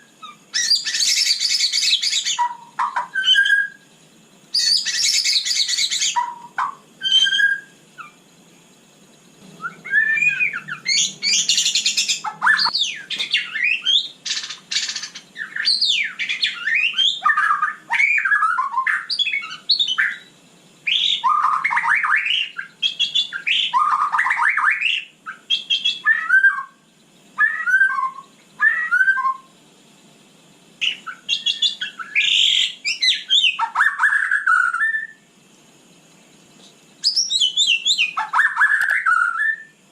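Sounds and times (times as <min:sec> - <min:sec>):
bird singing whistled phrases: 0:00.0 - 0:08.2, 0:09.5 - 0:29.6, 0:30.8 - 0:35.3, 0:37.0 - 0:39.8.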